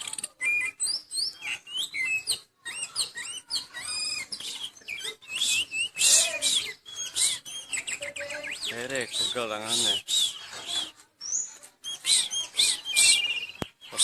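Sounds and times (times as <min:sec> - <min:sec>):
bird singing whistled notes: 0:00.0 - 0:14.0.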